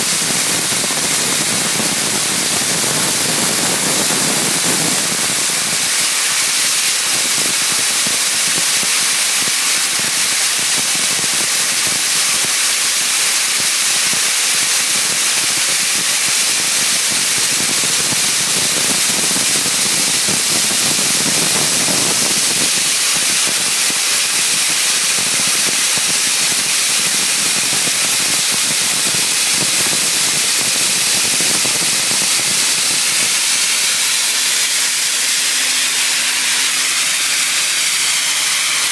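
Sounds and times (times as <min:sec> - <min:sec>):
dry ice blasting hiss: 0:00.0 - 0:38.9.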